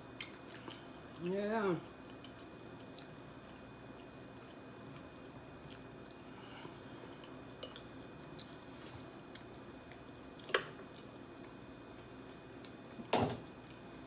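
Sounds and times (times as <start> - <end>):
person chewing food: 0.2 - 13.0.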